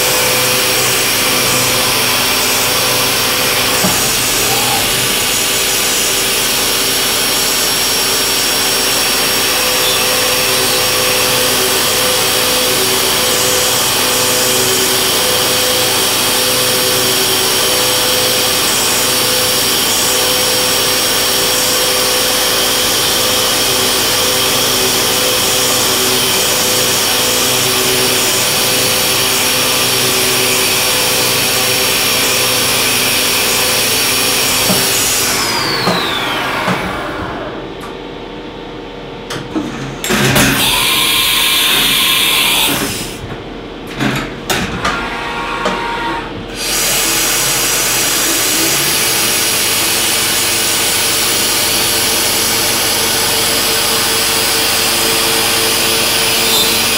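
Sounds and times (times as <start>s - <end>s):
milling machine whine: 0.0s - 56.9s.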